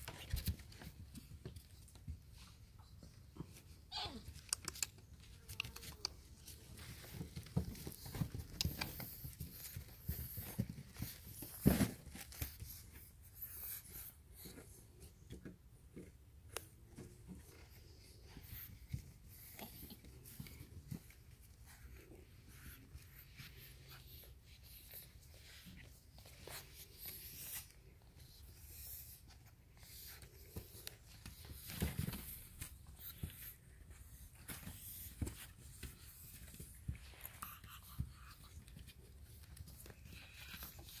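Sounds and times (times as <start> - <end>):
puppies scuffling and scratching: 0.0 - 41.0.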